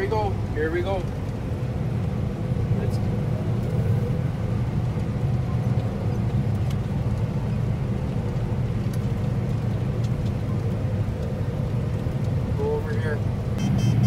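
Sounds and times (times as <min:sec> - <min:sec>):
combine harvester low rumble: 0:00.0 - 0:14.0.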